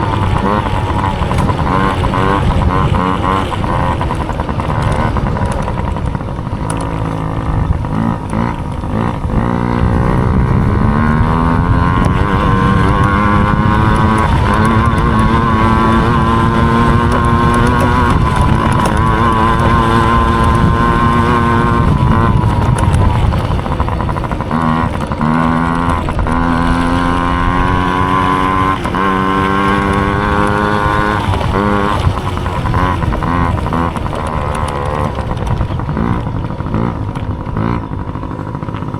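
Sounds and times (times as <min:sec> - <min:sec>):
dirt bike engine racing: 0:00.0 - 0:38.9.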